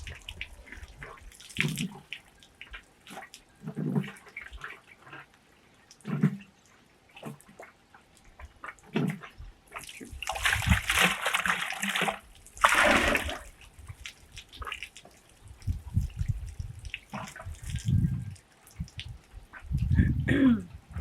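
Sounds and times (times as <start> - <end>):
water dripping: 0.0 - 20.0
water splashing and sloshing: 0.0 - 21.0.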